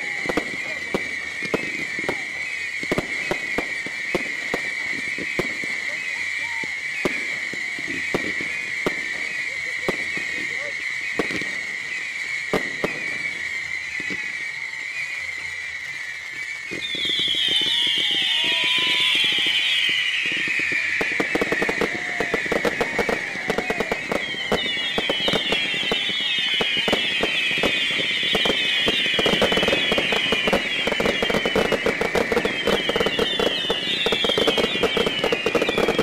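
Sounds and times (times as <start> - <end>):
fireworks crackling and popping: 0.0 - 36.0
fireworks whistling: 0.0 - 36.0.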